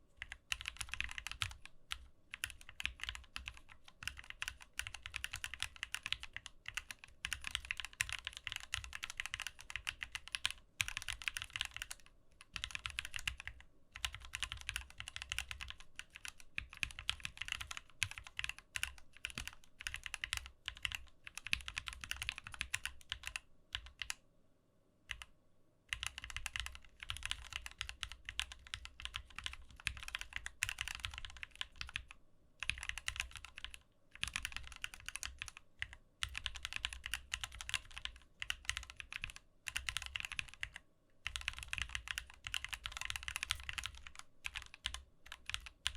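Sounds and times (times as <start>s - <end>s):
mechanical keyboard typing: 0.2s - 24.2s, 25.1s - 25.3s, 25.9s - 45.9s.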